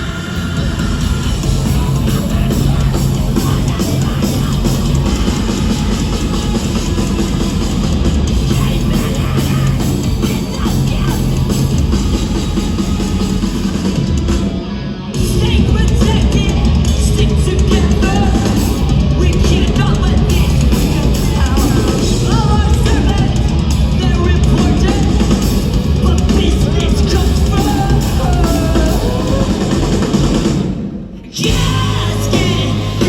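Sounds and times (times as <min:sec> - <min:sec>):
drum kit: 0:00.0 - 0:33.0
guitars: 0:00.0 - 0:33.0
rock band playing: 0:00.0 - 0:33.0.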